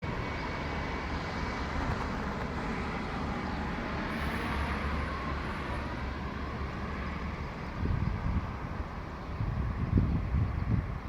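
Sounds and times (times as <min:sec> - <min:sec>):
faint high engine whine: 0:00.0 - 0:11.0
jet engines rumbling: 0:00.1 - 0:11.0.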